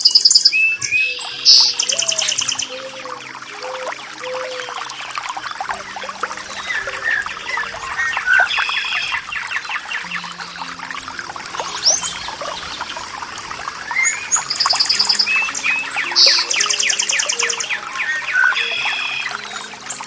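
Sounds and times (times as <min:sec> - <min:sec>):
small birds chirping: 0:00.0 - 0:20.0
water trickling and splashing: 0:00.0 - 0:20.0.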